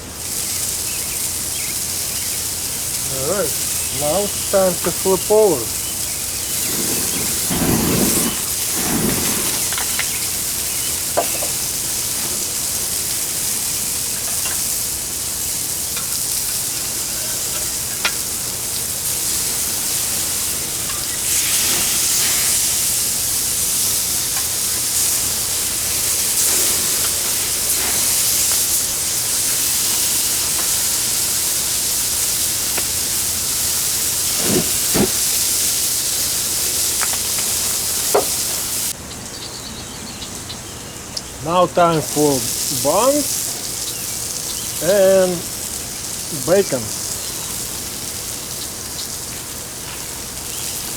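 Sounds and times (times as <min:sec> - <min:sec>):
patties sizzling on a grill: 0:00.0 - 0:50.9.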